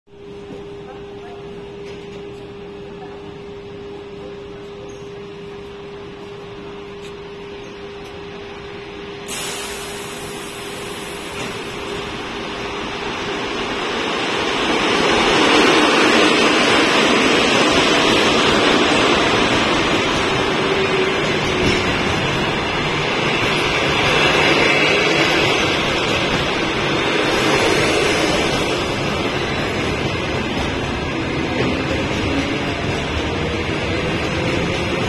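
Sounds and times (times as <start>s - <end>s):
train wheels rushing on rails: 5.4s - 35.0s.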